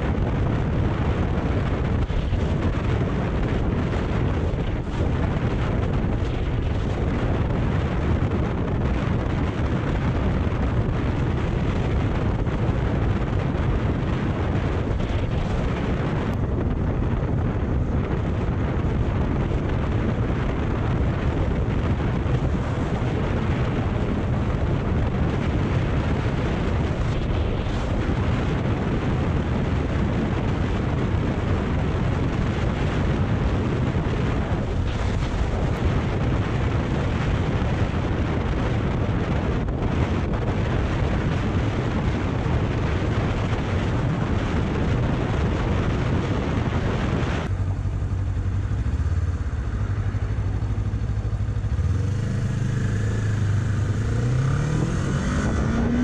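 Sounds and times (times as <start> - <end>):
wind rush over microphone: 0.0 - 56.0.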